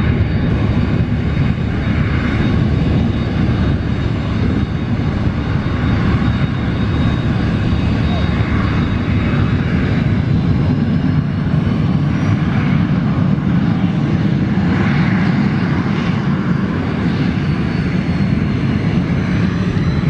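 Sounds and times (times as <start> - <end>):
jet engine rumbling: 0.0 - 20.0.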